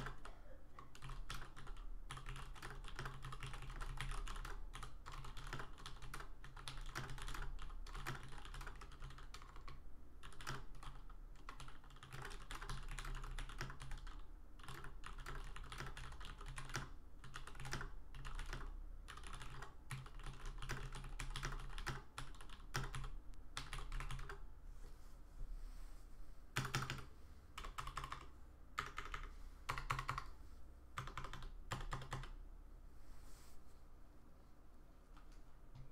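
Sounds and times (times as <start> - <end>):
mechanical keyboard typing: 0.0 - 24.4, 26.6 - 30.3, 31.0 - 32.4.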